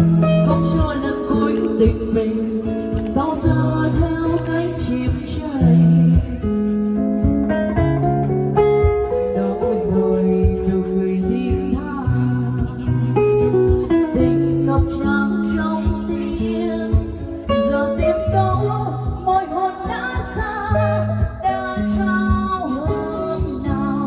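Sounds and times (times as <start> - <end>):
keyboard ballad melody: 0.0 - 24.0.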